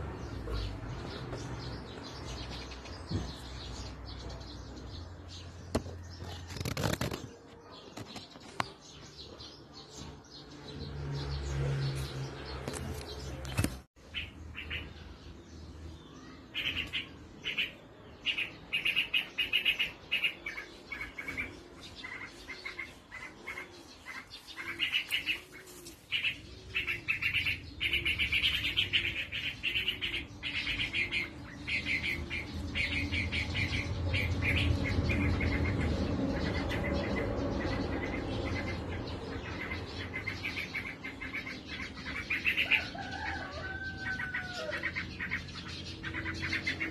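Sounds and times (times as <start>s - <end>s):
birds chirping rapidly: 0.0s - 46.9s.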